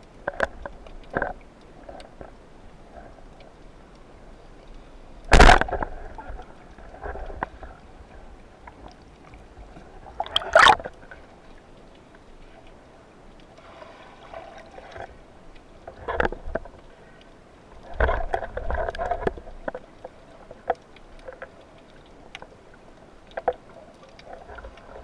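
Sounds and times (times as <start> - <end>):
underwater murky water noise: 0.0 - 25.0.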